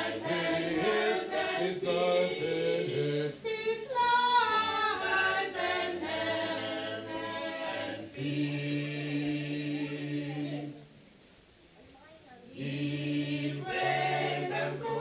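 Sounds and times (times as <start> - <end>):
group singing a hymn unaccompanied: 0.0 - 11.0, 12.5 - 15.0.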